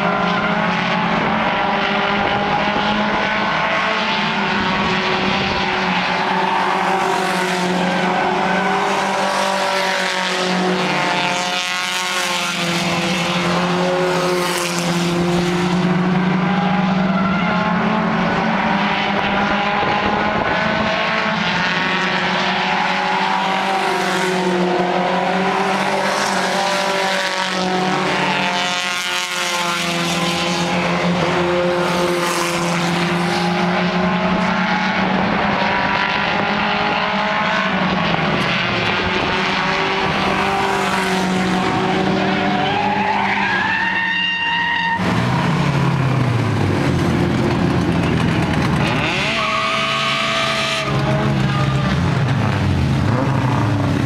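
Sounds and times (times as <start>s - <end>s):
engine whine climbing: 0.0s - 54.0s
race car engines passing: 0.0s - 54.0s.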